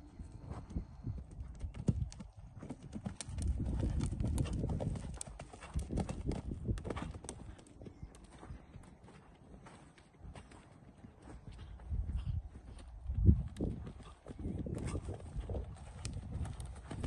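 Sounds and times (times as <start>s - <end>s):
horse hoofbeats on sand: 0.4s - 17.0s.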